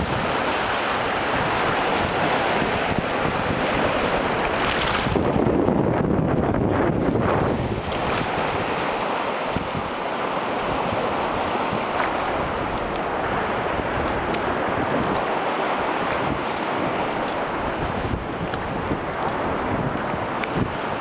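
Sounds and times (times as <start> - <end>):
waves washing over pebbles: 0.0 - 21.0
wind on microphone: 0.0 - 21.0.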